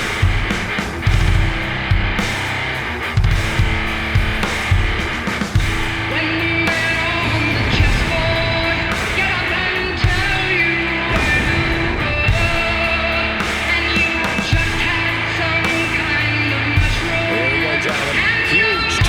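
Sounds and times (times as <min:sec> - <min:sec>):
rock music with guitar and singing: 0:00.0 - 0:19.0.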